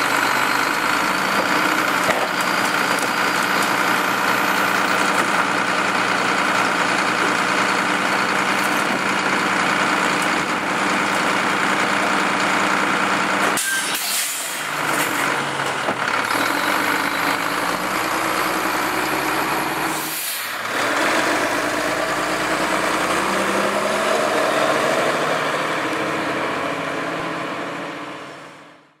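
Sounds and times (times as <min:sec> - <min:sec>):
diesel truck engine droning: 0:00.0 - 0:13.6, 0:14.4 - 0:29.0.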